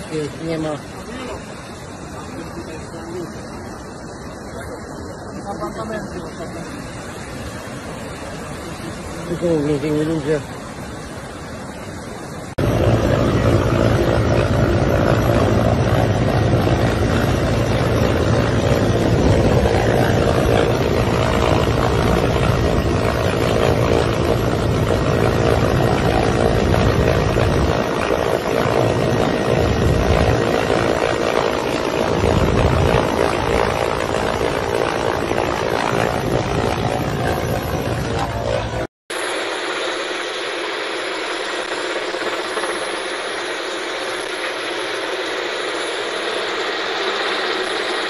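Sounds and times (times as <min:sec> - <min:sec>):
helicopter rotor and engine noise: 0:00.0 - 0:48.0
rushing air: 0:00.0 - 0:48.0.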